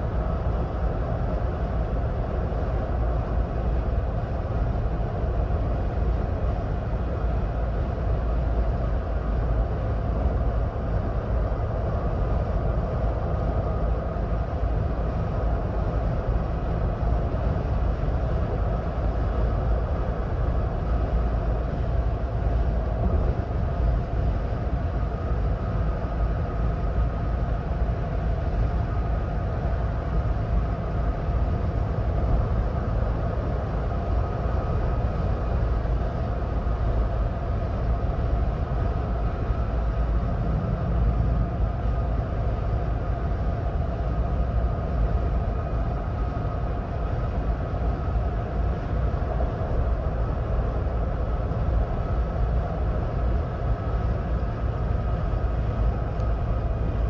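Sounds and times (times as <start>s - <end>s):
faint constant hum: 0.0s - 57.0s
road and tyre noise: 0.0s - 57.0s
deep rumble: 9.4s - 57.0s.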